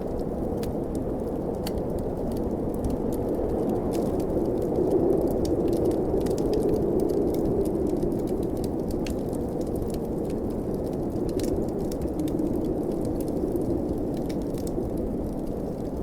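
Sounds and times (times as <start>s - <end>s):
blizzard wind: 0.0s - 16.0s
wood fire crackling: 0.0s - 16.0s.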